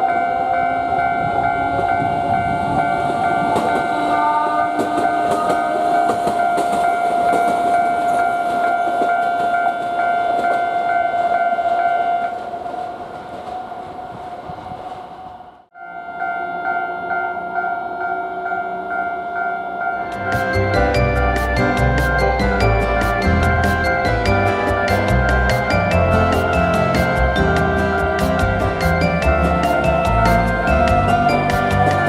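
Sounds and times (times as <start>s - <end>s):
crossing warning bell ringing: 0.0s - 13.2s, 15.7s - 32.0s
train wheels clacking over rails: 1.2s - 15.3s, 20.1s - 32.0s.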